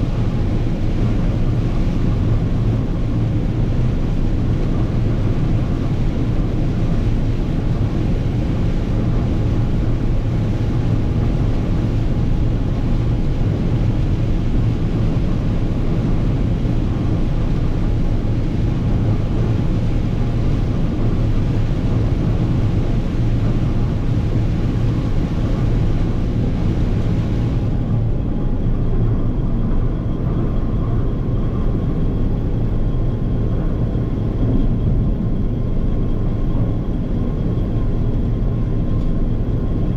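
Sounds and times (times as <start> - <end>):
combine engine and machinery drone: 0.0 - 39.9.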